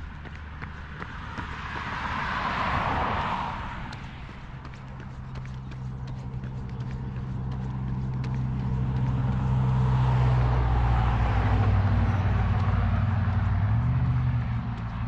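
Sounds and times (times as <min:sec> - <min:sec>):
tyre road noise: 0:00.0 - 0:15.0
vehicle engine hum: 0:00.0 - 0:15.0.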